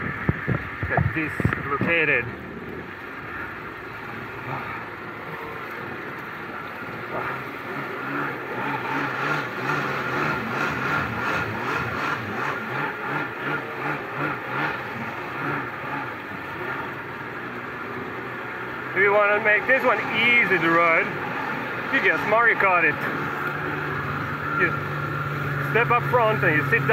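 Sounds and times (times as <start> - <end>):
jet ski engine running: 0.0 - 26.9
water rushing along hull: 0.0 - 26.9.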